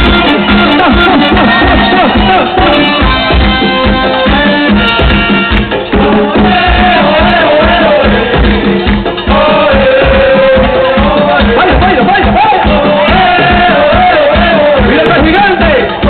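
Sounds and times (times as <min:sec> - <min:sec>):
hand drums beat: 0:00.0 - 0:16.0
lead voice singing: 0:00.0 - 0:16.0.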